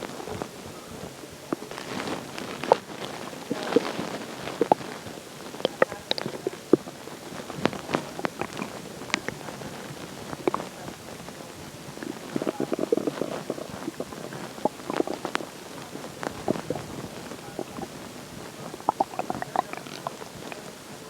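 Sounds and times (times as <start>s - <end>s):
stomach gurgling: 0.0s - 21.0s.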